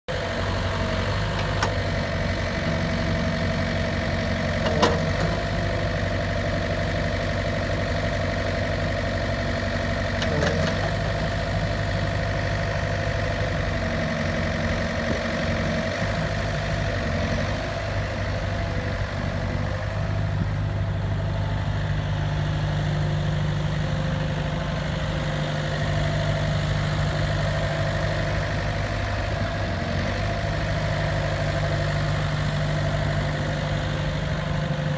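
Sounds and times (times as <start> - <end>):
excavator diesel engine idling: 0.1 - 34.9.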